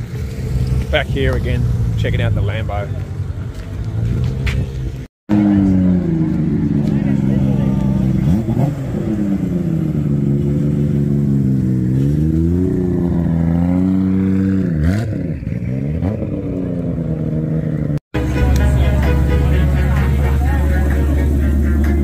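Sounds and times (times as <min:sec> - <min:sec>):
car engine pulling away: 0:00.0 - 0:22.0.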